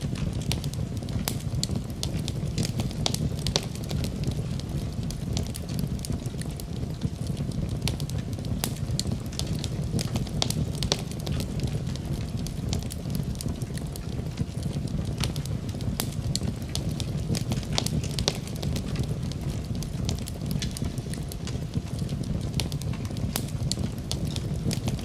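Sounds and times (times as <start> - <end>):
fire pops and snaps: 0.0 - 25.0
wood fire crackling: 0.0 - 25.0.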